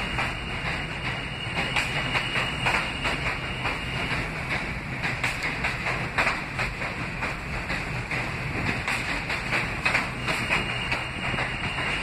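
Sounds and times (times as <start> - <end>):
train wheels rumbling on rail: 0.0 - 12.0
wheels clacking over rail joints: 0.0 - 12.0.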